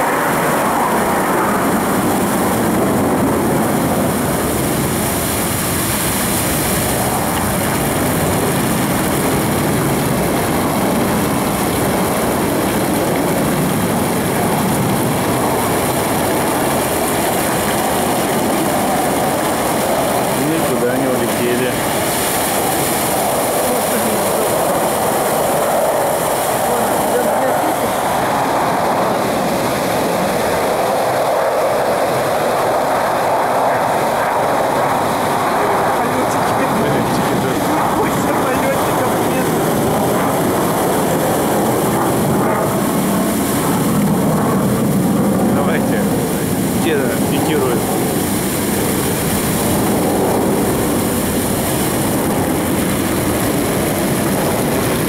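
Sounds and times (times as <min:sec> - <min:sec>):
aircraft flying overhead: 0:00.0 - 0:55.0.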